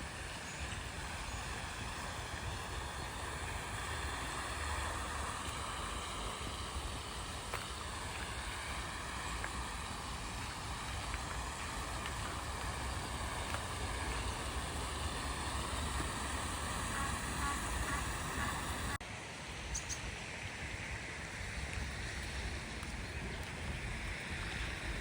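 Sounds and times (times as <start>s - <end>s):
outdoor rumble with hiss: 0.0s - 25.0s.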